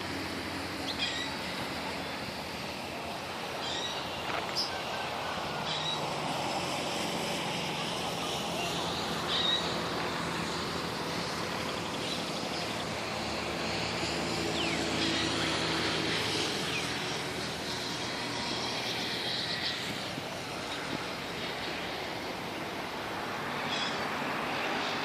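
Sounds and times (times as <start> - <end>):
distant traffic rumble: 0.0 - 25.0
low engine hum: 0.0 - 25.0.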